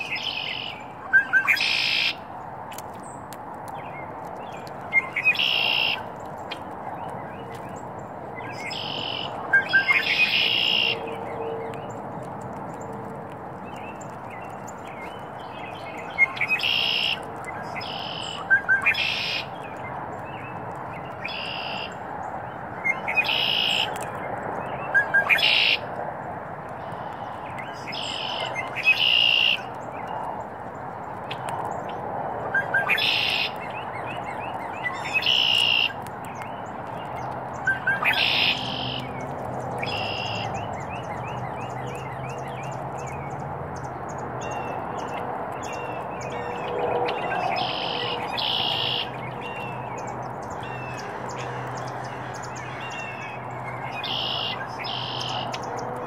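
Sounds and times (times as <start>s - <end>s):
rapid bird chirping: 0.0s - 26.0s, 26.8s - 56.0s
steady background noise: 0.0s - 56.0s
wild birds calling: 0.0s - 56.0s.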